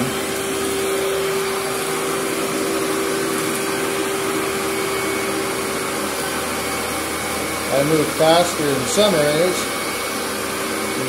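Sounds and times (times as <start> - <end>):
vacuum cleaner on carpet: 0.0 - 11.0.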